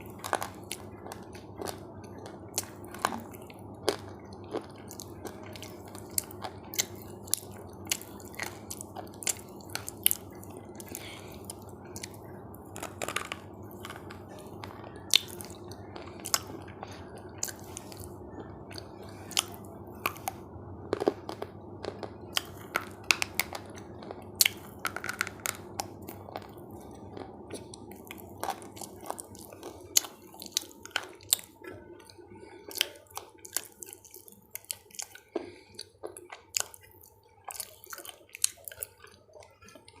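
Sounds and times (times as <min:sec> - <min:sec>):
chewing crunchy food: 0:00.0 - 0:40.0
low background hum: 0:00.0 - 0:40.0.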